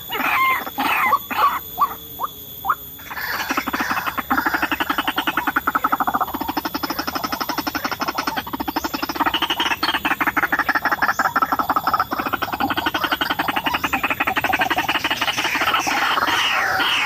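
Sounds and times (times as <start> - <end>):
bird harsh croaking calls: 0.0 - 17.0.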